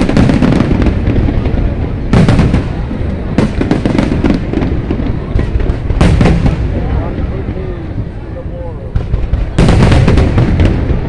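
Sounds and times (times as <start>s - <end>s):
fireworks bangs: 0.0s - 11.0s
fireworks crackling and rumbling: 0.0s - 11.0s.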